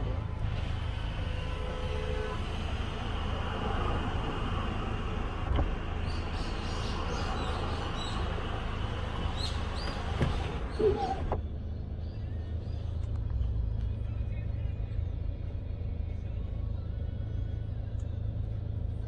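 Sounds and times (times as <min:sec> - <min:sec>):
engine and road rumble in car: 0:00.0 - 0:19.0.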